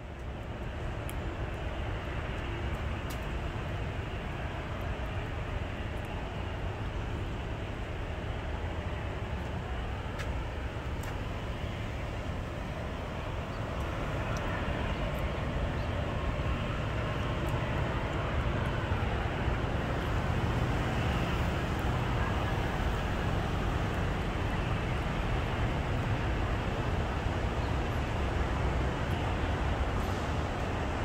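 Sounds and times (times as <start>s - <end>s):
distant road traffic: 0.0s - 31.0s.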